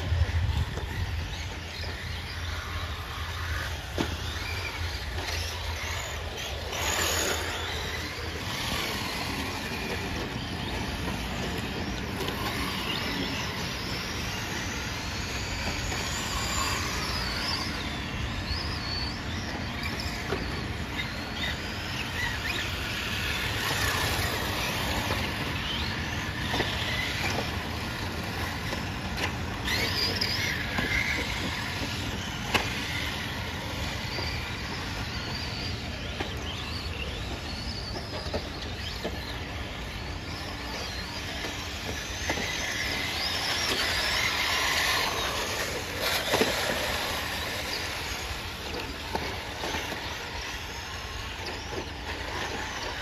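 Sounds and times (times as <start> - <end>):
radio-controlled car motors whining: 0.0 - 53.0.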